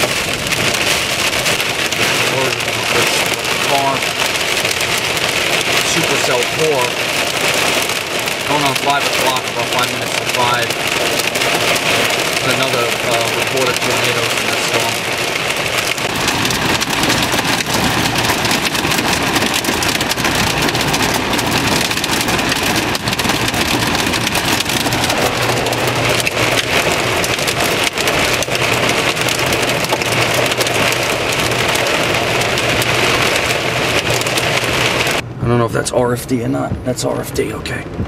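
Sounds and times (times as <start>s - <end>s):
car hum: 0.0s - 38.0s
heavy rain on car roof: 0.0s - 38.0s.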